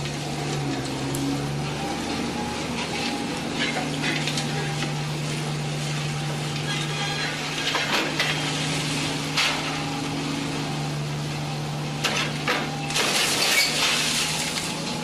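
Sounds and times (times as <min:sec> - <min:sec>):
excavator engine humming: 0:00.0 - 0:15.0.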